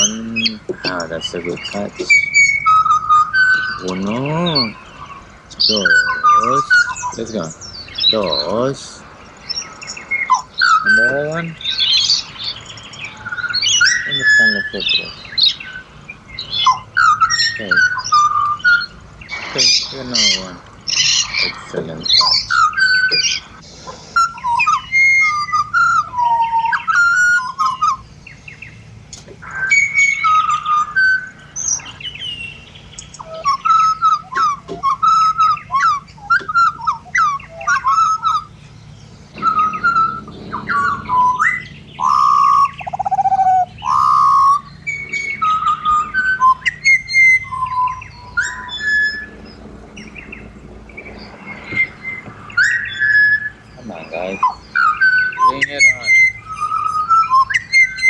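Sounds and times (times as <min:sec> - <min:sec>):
bird whistling song: 0:00.0 - 0:58.0.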